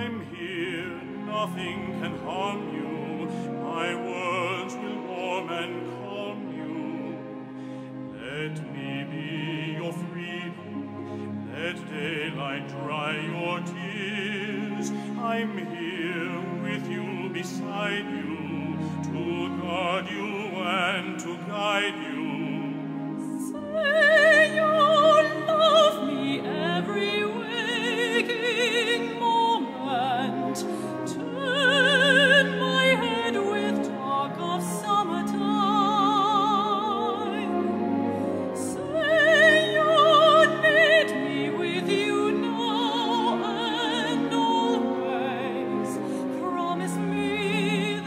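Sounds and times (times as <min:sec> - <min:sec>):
soprano singing operatic ballad: 0:00.0 - 0:48.0.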